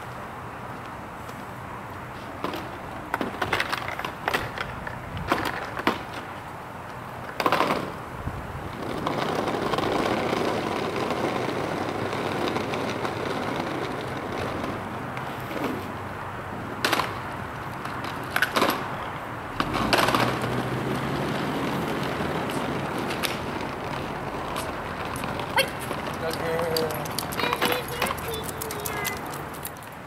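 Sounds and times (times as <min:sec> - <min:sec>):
plastic wheels rolling on asphalt: 0:00.0 - 0:30.0.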